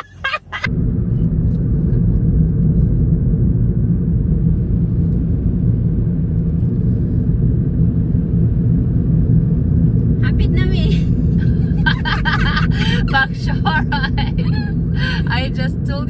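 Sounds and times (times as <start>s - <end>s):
car interior road and engine noise: 0.0s - 16.0s.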